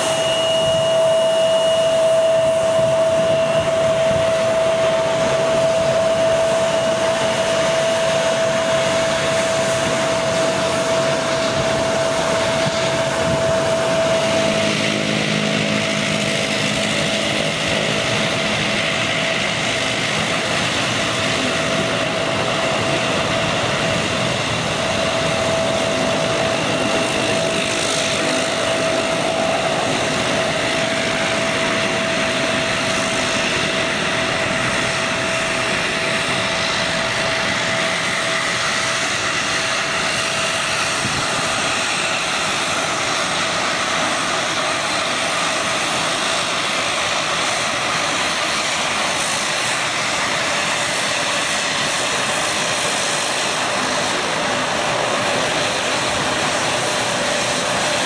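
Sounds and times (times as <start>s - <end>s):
jet engines whining: 0.0s - 58.0s
turboprop engine hum: 0.0s - 58.0s.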